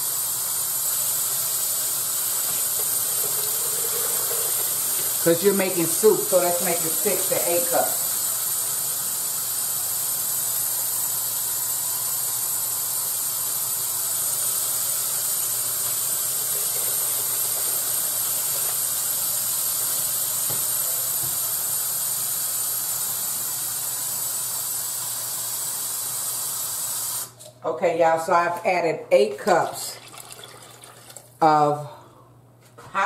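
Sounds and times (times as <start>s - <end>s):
water running from faucet: 0.0s - 27.4s, 29.5s - 31.5s.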